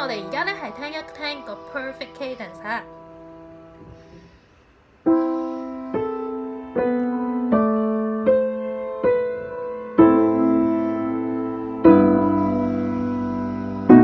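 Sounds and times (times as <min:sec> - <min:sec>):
piano playing block chords: 0:00.0 - 0:04.1, 0:05.0 - 0:14.0.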